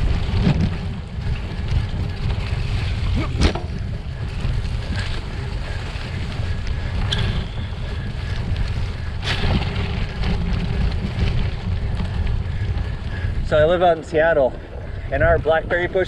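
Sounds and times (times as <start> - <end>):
bike rumbling on rough road: 0.0 - 16.0
wind buffeting microphone: 0.0 - 16.0.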